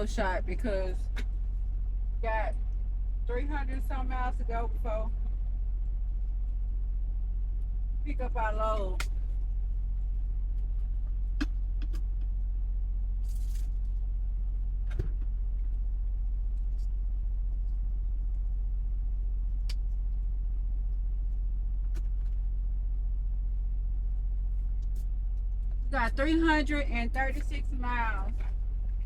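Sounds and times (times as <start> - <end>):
diesel engine drone in cab: 0.0 - 29.0.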